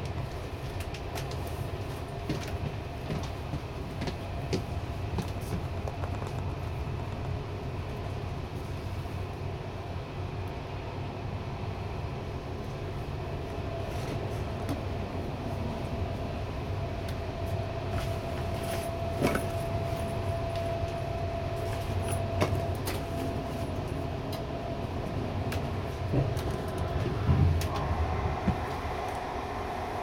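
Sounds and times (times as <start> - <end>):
locomotive hum: 0.0 - 30.0
train rumbling: 0.0 - 30.0.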